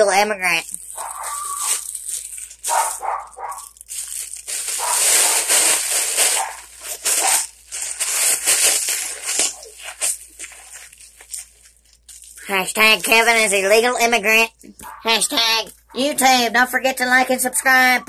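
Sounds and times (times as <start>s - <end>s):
foil balloon crinkling: 0.2s - 15.2s.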